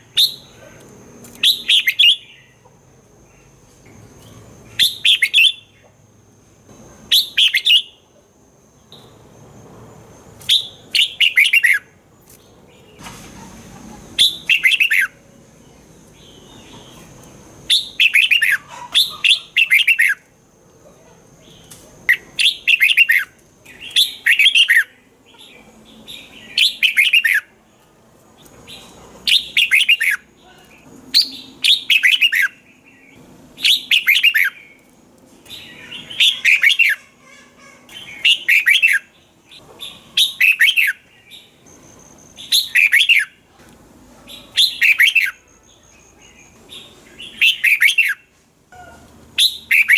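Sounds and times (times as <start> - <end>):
bird singing: 0.0 - 6.0, 7.0 - 9.3, 10.1 - 43.4, 44.2 - 49.9.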